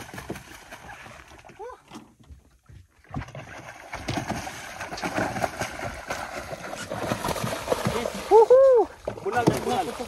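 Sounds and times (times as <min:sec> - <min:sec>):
water splashing against boat: 0:00.0 - 0:10.0.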